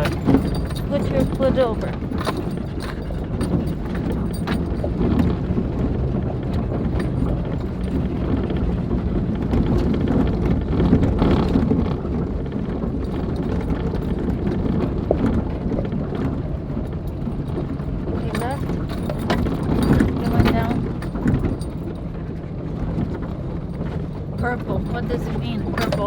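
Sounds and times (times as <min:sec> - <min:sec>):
knocks and rattles from bumps: 0:00.0 - 0:26.0
low engine sound: 0:00.0 - 0:26.0.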